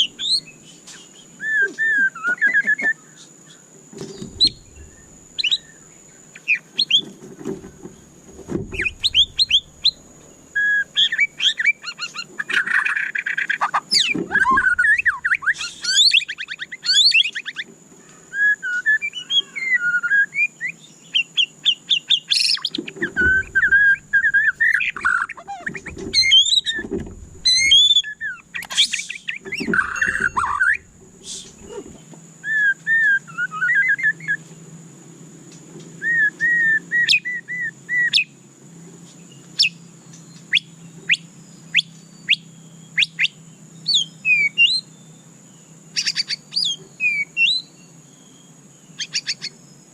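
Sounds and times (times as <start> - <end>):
bird singing whistled song: 0.0 - 7.1, 8.7 - 17.7, 18.3 - 31.8, 32.4 - 34.4, 36.0 - 38.4, 39.2 - 49.8
sharp bird chirps: 0.0 - 8.1, 8.7 - 31.8, 36.0 - 38.4, 39.1 - 49.9.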